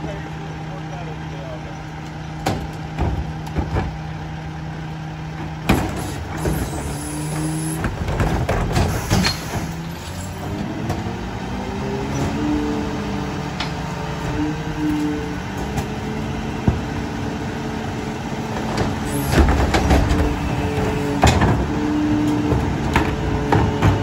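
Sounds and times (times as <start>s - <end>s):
garbage truck engine: 0.0s - 24.0s.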